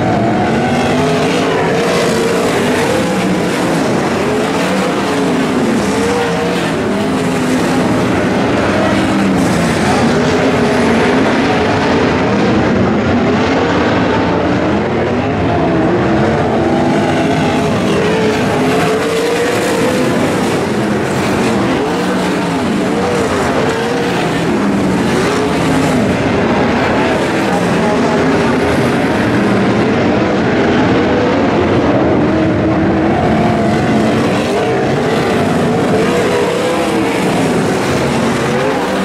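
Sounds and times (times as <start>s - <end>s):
racing car engines: 0.0s - 39.0s.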